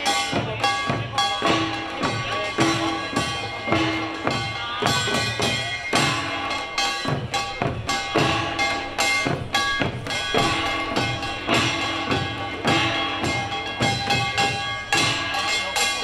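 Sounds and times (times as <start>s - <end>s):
drums in fast rhythm: 0.0s - 16.0s
ringing tones: 0.0s - 16.0s.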